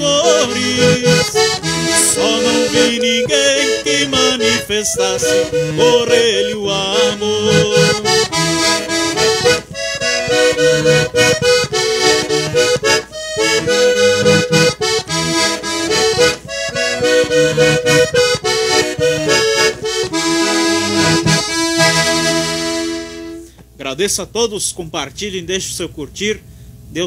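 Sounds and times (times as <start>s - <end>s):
piano accordion playing: 0.0s - 23.5s.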